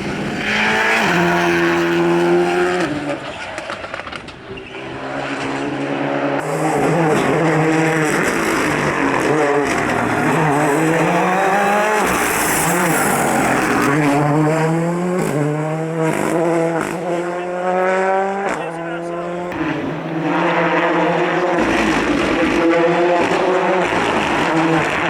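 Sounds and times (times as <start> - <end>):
rally car engine accelerating: 0.0 - 25.0.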